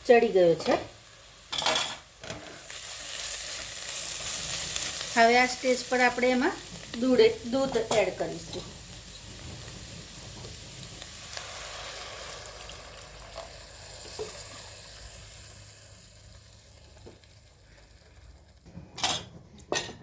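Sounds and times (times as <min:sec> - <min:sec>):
food sizzling in a pan: 0:00.0 - 0:18.7.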